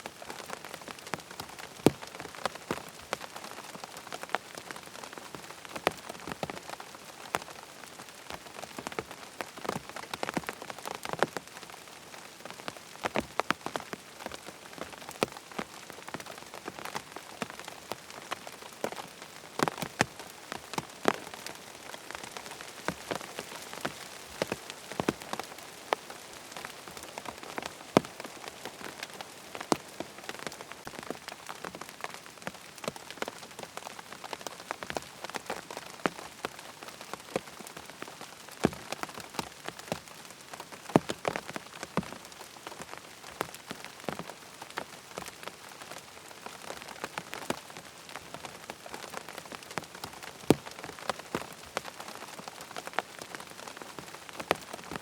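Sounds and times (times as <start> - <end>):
rain pattering on tent: 0.0 - 55.0.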